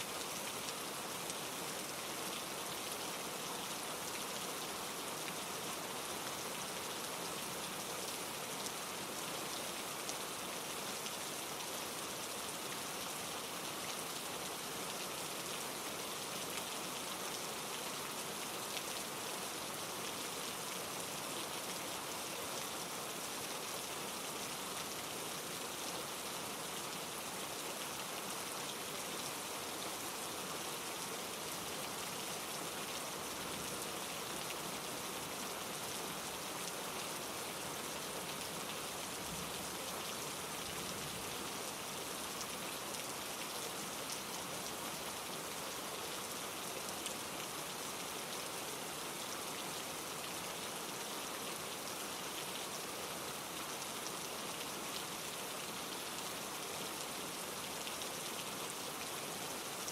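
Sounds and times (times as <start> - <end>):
rain pattering on surfaces: 0.0 - 59.9
stream rushing over rocks: 0.0 - 59.9.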